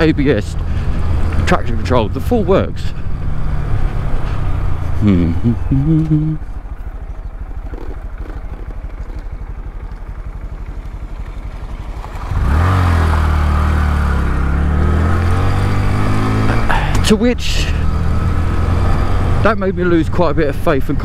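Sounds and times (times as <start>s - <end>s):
motorcycle engine revving: 0.0s - 21.0s
wind and road noise: 0.0s - 21.0s.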